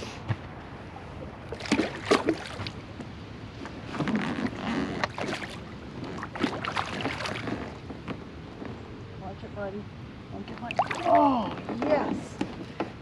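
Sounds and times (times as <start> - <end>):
water moving around a boat: 0.4 - 8.8, 10.3 - 13.0.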